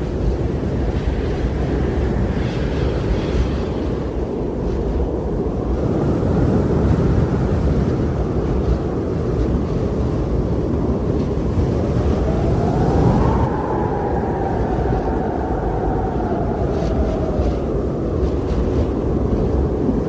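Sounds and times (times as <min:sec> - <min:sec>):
strong wind rumbling: 0:00.0 - 0:20.0
wind whistling howl: 0:00.0 - 0:20.0.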